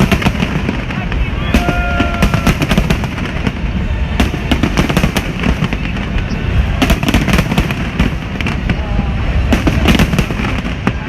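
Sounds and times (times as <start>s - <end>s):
fireworks crackling: 0.0s - 11.0s
sharp fireworks cracks: 0.0s - 11.0s.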